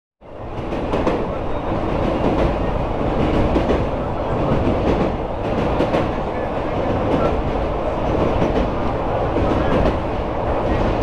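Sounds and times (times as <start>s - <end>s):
train wheels rumbling on rails: 0.2s - 11.0s.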